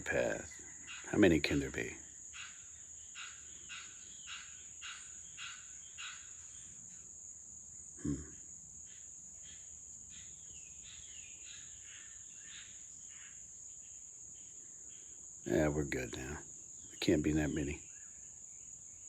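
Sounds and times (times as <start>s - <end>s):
bird harsh calls: 0.0s - 6.8s, 8.0s - 18.3s.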